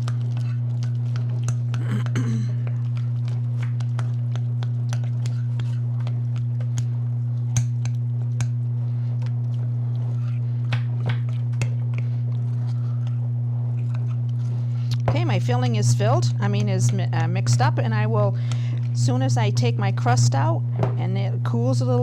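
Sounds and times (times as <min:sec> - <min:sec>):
spoon stirring thick filling: 0:00.0 - 0:18.1
steady low hum: 0:00.0 - 0:22.0.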